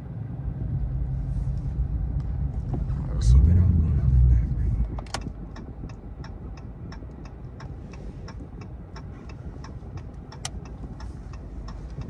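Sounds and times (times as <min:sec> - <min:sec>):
low engine rumble: 0:00.0 - 0:12.0
turn signal ticking: 0:02.1 - 0:12.0.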